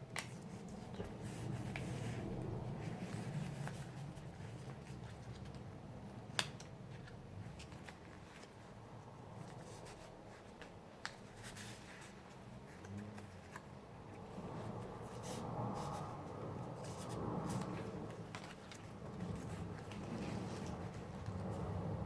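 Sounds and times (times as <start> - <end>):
paper pages rustling: 0.2 - 5.7, 9.4 - 21.7.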